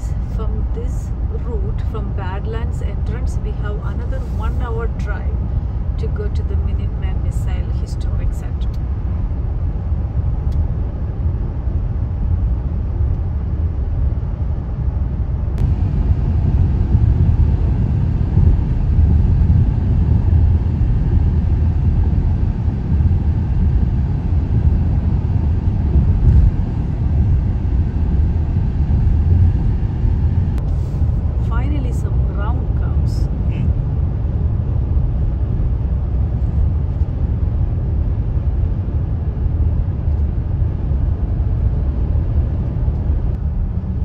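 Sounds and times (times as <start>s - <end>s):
car road noise rumble: 0.0s - 44.0s.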